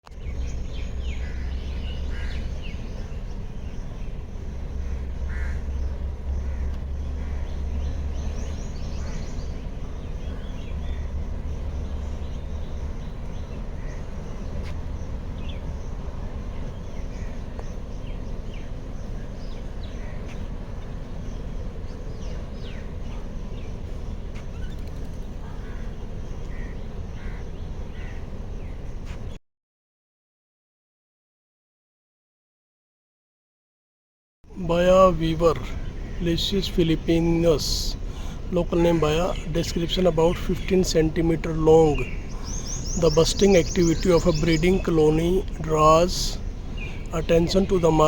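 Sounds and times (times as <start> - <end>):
birds chirping and calling: 0.1 - 29.4, 34.5 - 48.0
steady low rumble: 0.1 - 29.4, 34.5 - 48.0.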